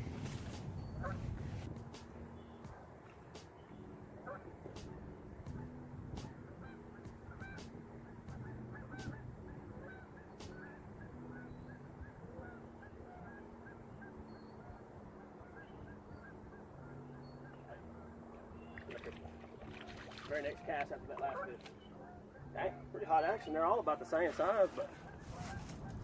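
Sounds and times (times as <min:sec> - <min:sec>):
geese honking: 0:02.4 - 0:26.0.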